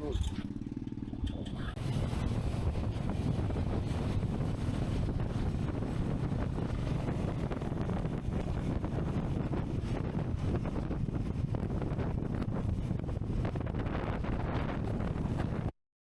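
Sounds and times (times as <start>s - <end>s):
wind buffeting microphone: 0.0s - 15.7s.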